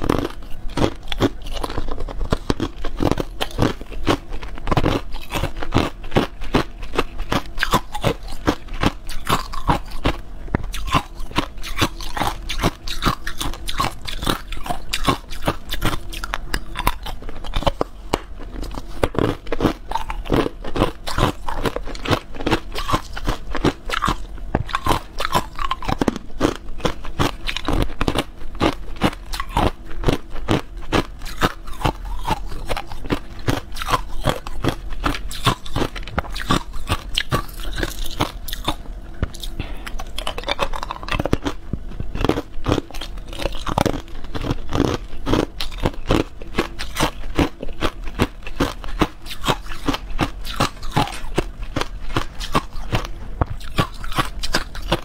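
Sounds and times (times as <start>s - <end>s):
ice cubes crunching while chewed: 0.0s - 55.0s.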